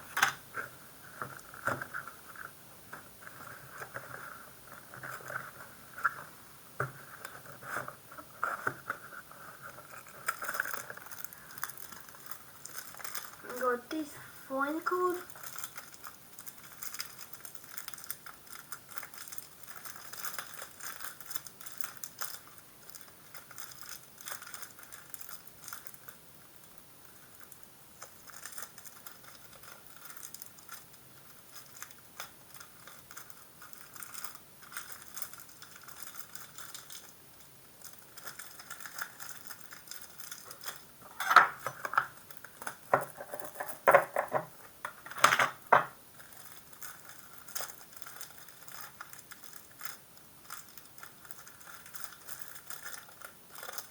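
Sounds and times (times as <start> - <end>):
trading cards and packaging crinkling: 7.0 - 53.9.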